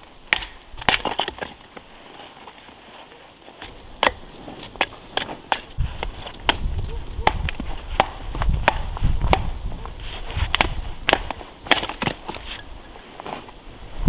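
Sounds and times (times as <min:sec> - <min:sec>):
axe splitting firewood: 0:00.2 - 0:02.6, 0:03.6 - 0:13.5.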